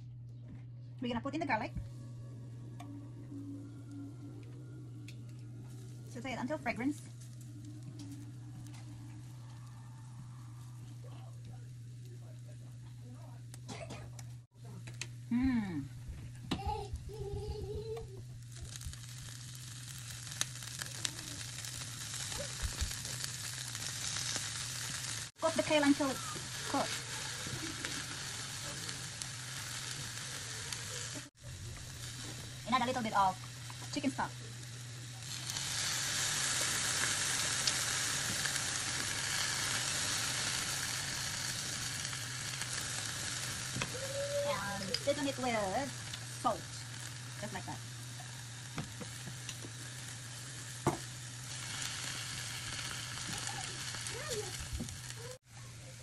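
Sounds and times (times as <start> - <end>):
garlic sizzling in oil: 5.3 - 12.8, 17.3 - 56.0.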